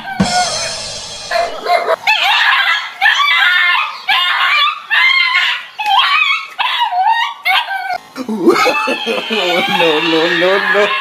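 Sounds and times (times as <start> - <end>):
dog yelping and howling: 0.0 - 11.0.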